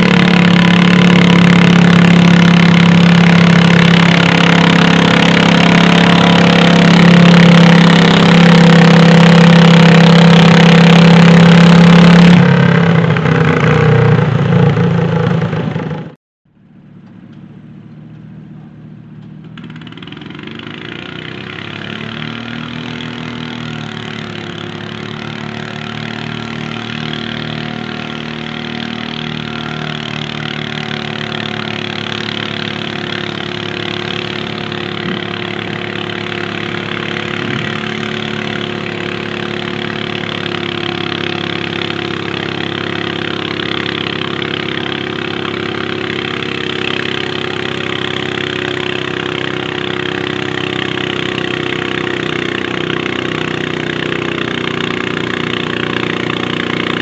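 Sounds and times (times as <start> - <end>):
distant engines running: 0.0 - 57.0
tractor engine at full throttle: 0.0 - 57.0.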